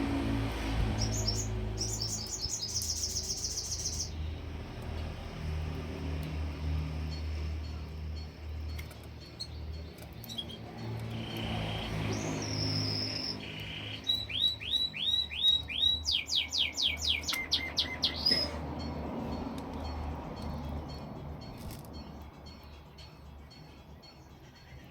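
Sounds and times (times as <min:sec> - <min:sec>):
canary singing: 0:00.9 - 0:04.9, 0:06.9 - 0:24.9.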